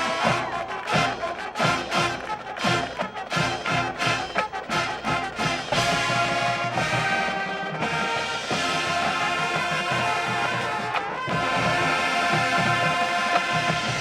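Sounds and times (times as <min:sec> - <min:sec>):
marching band brass: 0:00.0 - 0:14.0
steady drum beat: 0:00.0 - 0:14.0.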